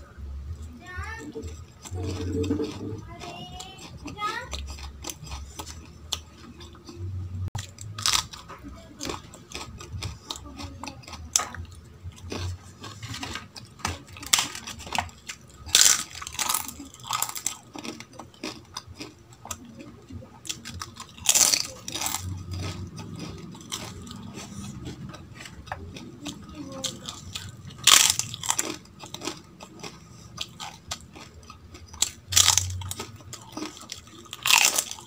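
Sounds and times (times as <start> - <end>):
wet chewing: 1.2 - 35.0.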